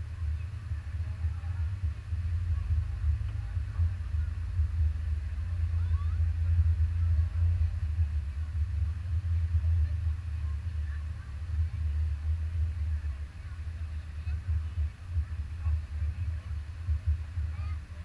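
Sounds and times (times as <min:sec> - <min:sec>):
race car engine idling: 0:00.0 - 0:18.0.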